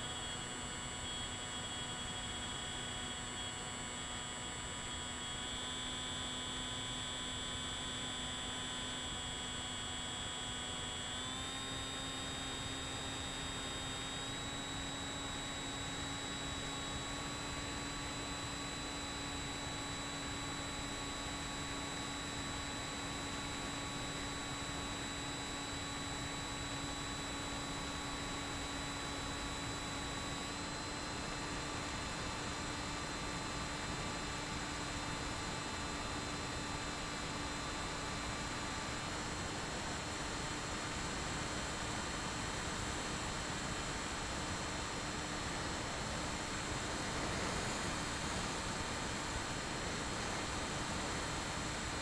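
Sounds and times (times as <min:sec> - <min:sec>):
electric motor and propeller whine: 0:00.0 - 0:52.0.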